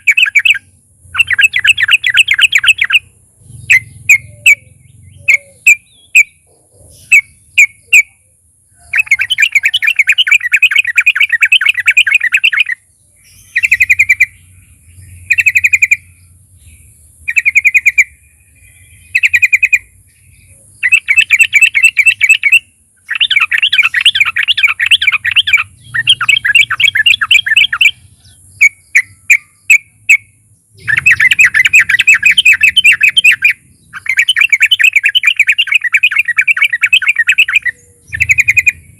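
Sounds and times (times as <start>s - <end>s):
bird singing bubbling trills: 0.0s - 38.9s
bird single chirps: 0.0s - 38.9s.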